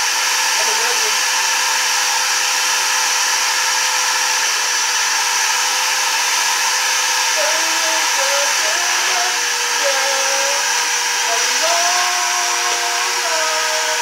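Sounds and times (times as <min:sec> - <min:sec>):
shop vacuum running: 0:00.0 - 0:14.0.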